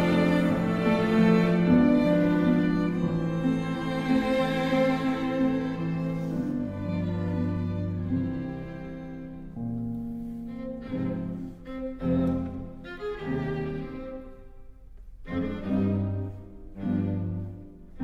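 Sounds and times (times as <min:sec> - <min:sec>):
slow bowed string music: 0:00.0 - 0:18.0.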